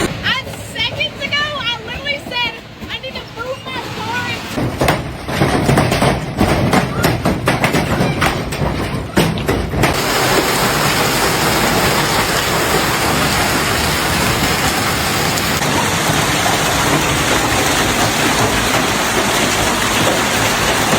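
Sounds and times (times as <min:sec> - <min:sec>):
hail and rain falling hard: 0:03.2 - 0:20.9.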